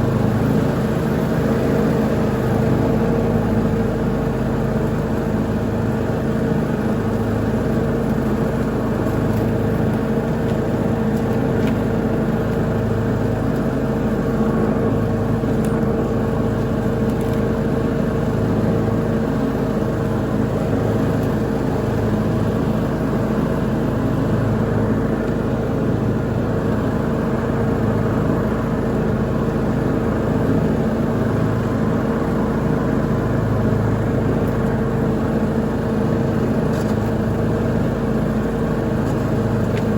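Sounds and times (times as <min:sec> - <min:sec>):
lawn mower engine: 0:00.0 - 0:39.9.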